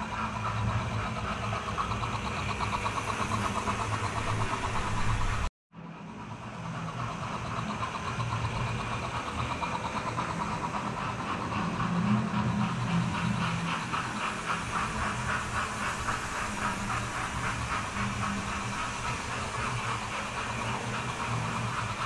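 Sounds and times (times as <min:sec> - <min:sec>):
fast even clicking of trains: 0:00.0 - 0:22.0.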